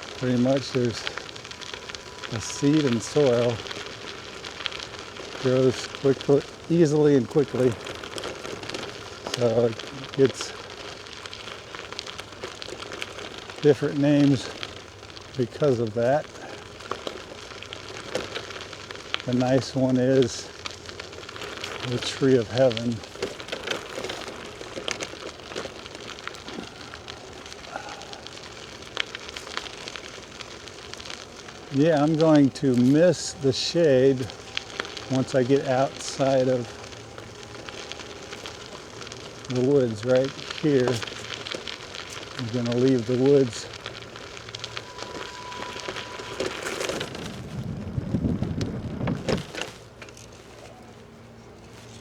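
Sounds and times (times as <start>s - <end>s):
bicycle tyres rolling on trail: 0.0s - 52.0s.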